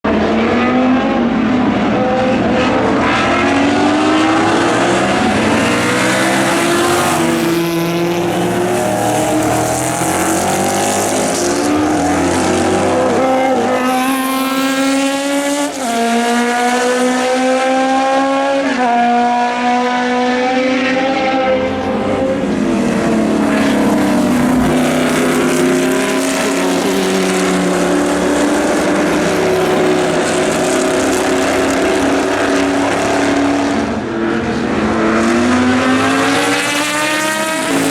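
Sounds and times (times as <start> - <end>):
racing car engines at full throttle: 0.0 - 37.9.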